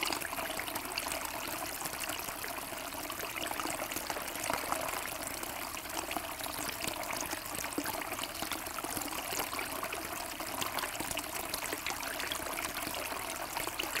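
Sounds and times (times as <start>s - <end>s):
fountain water trickling and splashing: 0.0s - 14.0s.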